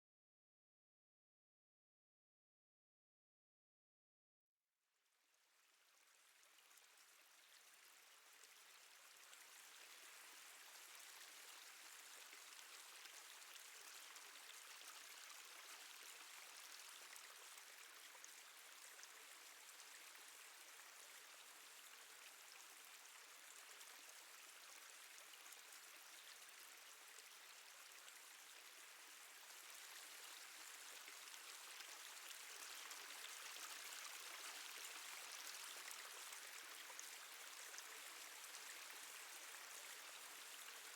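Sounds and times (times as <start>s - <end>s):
water trickling and dripping: 5.5s - 40.9s.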